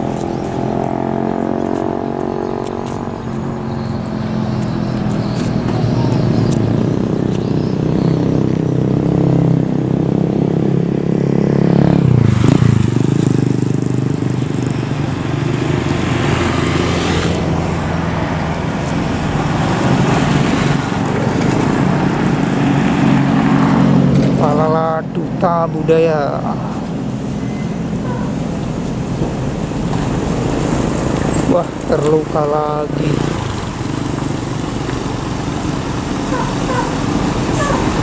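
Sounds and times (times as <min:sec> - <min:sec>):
diesel engines running: 0:00.0 - 0:38.0
motorcycles passing: 0:00.0 - 0:38.0.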